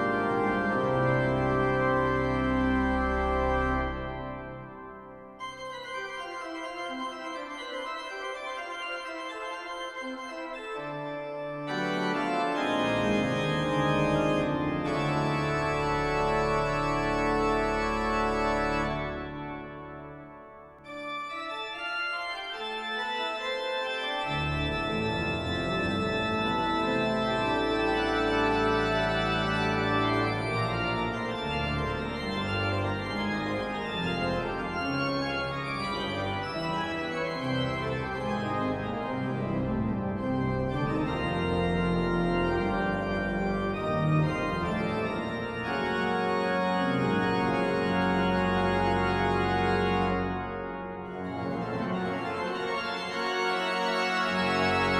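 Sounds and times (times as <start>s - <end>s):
deep organ pedal bass: 0.0s - 4.9s, 5.5s - 54.9s
pipe organ playing a toccata: 0.0s - 54.9s.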